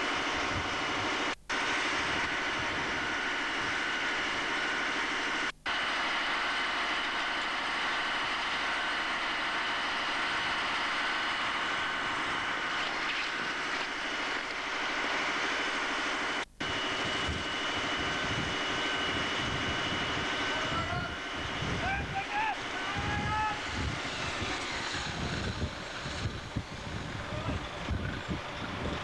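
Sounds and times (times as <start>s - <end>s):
constant high whine: 0.0s - 29.0s
fire engine running: 0.0s - 29.0s.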